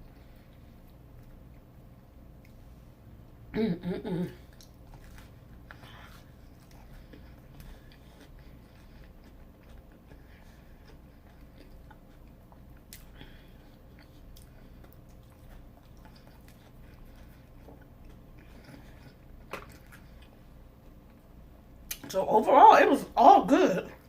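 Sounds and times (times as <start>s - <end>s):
person chewing fried food: 0.0s - 2.8s, 4.4s - 22.1s.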